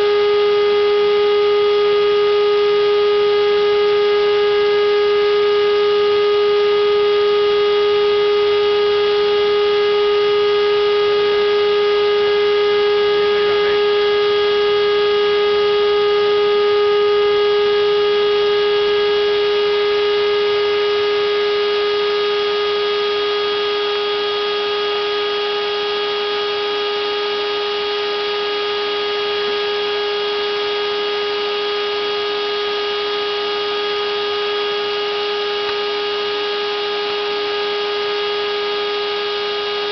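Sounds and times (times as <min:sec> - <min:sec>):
router high-pitched whine: 0:00.0 - 0:39.9.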